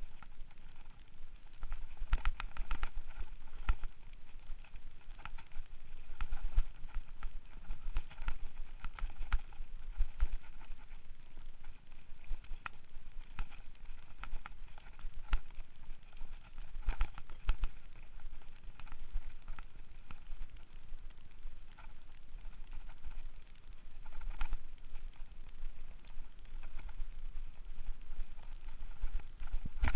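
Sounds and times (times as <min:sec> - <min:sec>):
wind rumble on microphone: 0:00.0 - 0:29.9.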